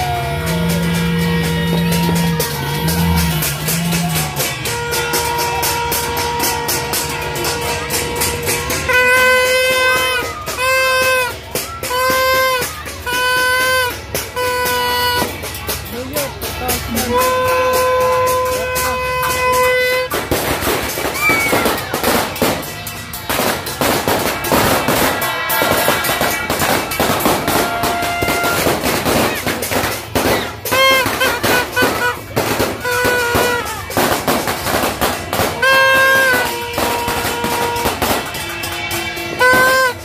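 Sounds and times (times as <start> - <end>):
firecrackers popping and crackling: 0.0 - 40.0
party horn tooting: 0.0 - 40.0.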